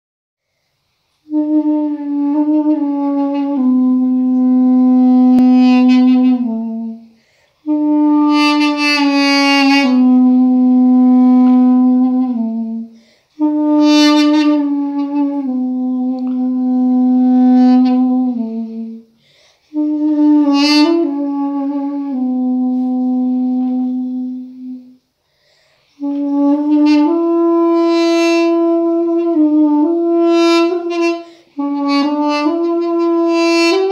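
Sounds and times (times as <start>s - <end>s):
duduk playing mournful melody: 1.3s - 7.0s, 7.7s - 19.0s, 19.7s - 24.8s, 26.0s - 33.9s.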